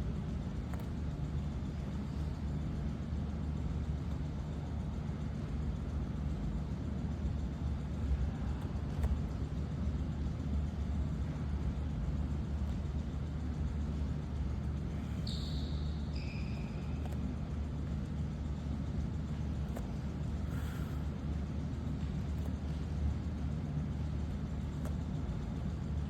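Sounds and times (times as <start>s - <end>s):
steady low rumble: 0.0s - 15.2s, 16.0s - 26.0s.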